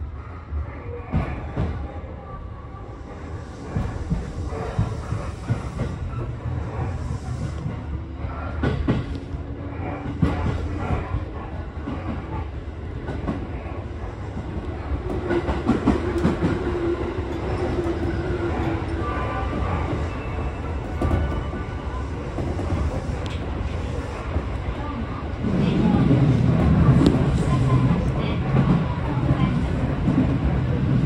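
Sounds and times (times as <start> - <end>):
passing train hum: 0.0 - 31.0
train wheels rumbling on rail: 2.9 - 31.0.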